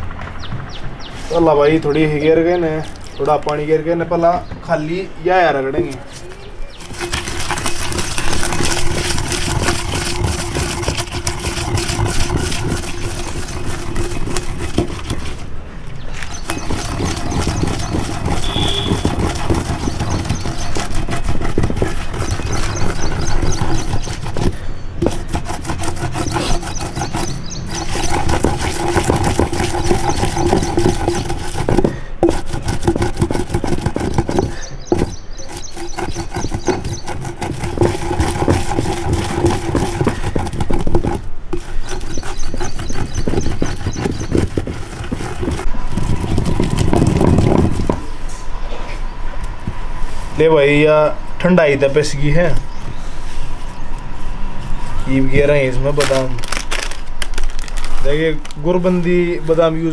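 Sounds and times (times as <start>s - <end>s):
pestle scraping in stone mortar: 2.2s - 3.6s, 5.8s - 48.4s, 54.9s - 59.9s.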